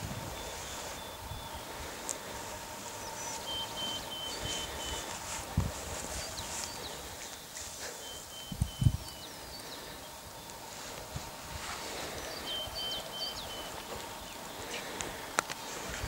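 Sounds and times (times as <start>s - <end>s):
songbirds chirping and whistling: 0.0s - 16.0s.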